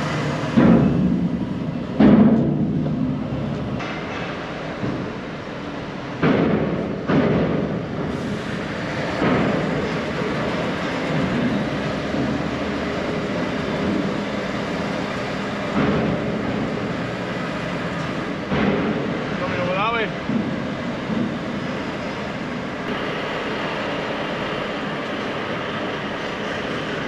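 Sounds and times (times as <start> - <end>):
lorry engine rumble: 0.0 - 27.0
heavy clunks of wheels on steel: 0.2 - 22.9.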